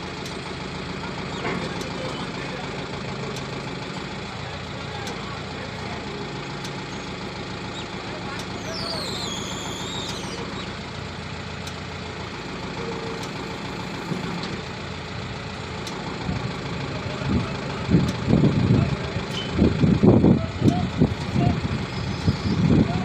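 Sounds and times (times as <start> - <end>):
diesel engine idling: 0.0 - 23.0
voices: 0.8 - 14.8, 15.6 - 23.0.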